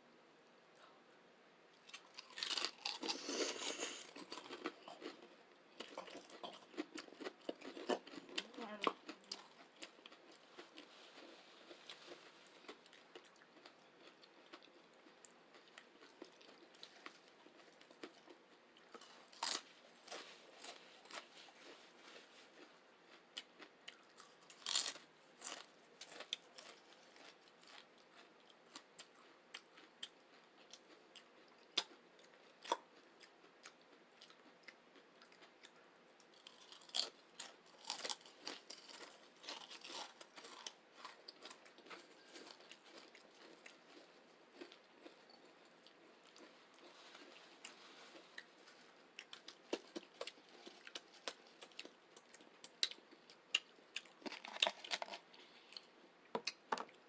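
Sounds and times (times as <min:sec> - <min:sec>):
people chewing crunchy chips: 0:01.8 - 0:57.0.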